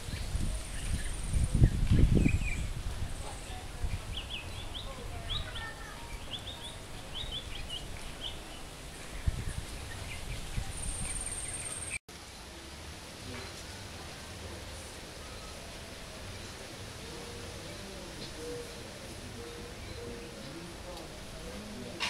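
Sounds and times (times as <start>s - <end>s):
small birds chirping: 0.0s - 12.0s, 14.7s - 22.0s.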